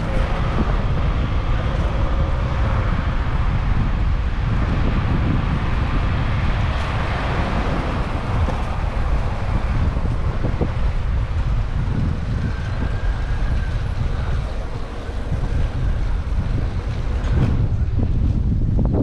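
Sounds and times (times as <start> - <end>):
bicycle road noise: 0.0 - 19.0
motor traffic: 0.0 - 19.0
wind rumble: 0.0 - 19.0.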